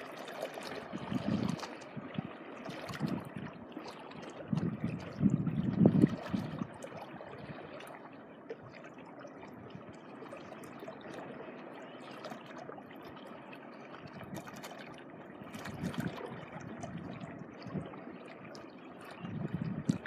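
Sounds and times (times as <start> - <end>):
low water rush: 0.0 - 20.0
small waves lapping: 0.0 - 20.0
water trickling over shoreline: 0.0 - 20.0.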